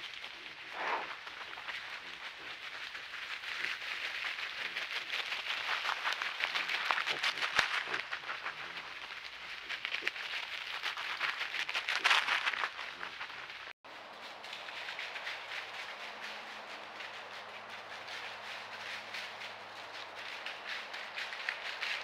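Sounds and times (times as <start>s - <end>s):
dry leaves rustling and crackling: 0.0s - 22.0s.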